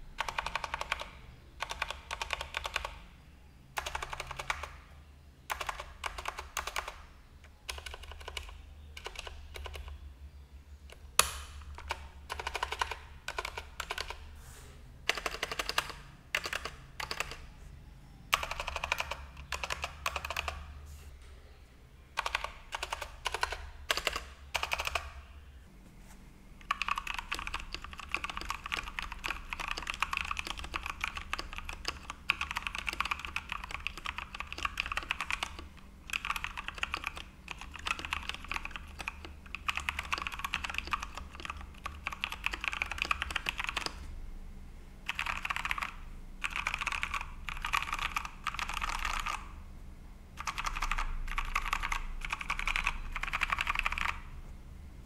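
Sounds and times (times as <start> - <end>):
mechanical keyboard typing: 0.2 - 3.0, 3.8 - 4.8, 5.5 - 10.0, 10.9 - 14.3, 15.0 - 17.5, 18.3 - 20.7, 22.2 - 25.2, 26.6 - 44.1, 45.0 - 49.6, 50.4 - 54.3.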